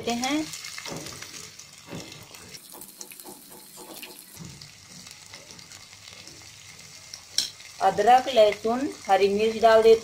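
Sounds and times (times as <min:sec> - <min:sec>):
onion sizzling in hot oil: 0:00.0 - 0:10.0.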